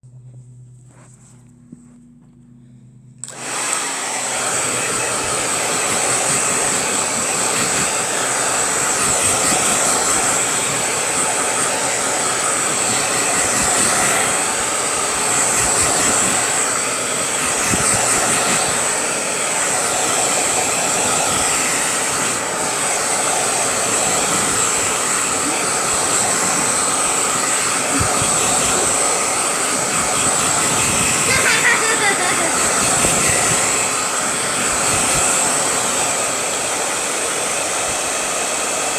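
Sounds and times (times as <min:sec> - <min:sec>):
hair dryer blowing: 0:03.1 - 0:38.9.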